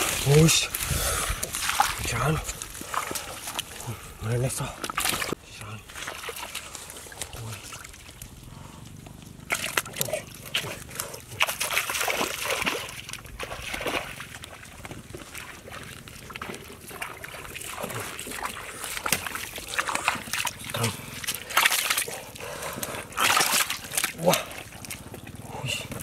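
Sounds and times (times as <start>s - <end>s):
fish splashing in shallow water: 0.0s - 4.2s, 4.8s - 26.0s.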